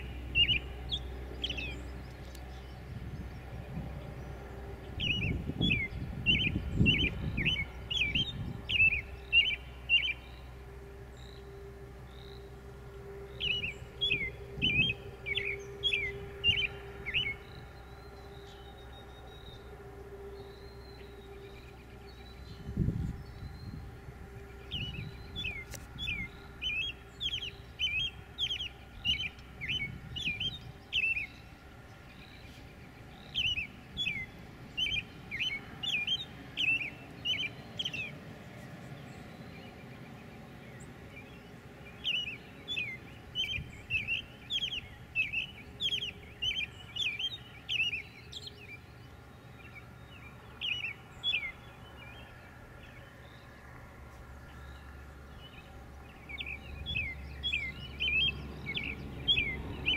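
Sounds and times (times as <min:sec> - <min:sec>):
songbird singing whistled notes: 0:00.0 - 0:59.9.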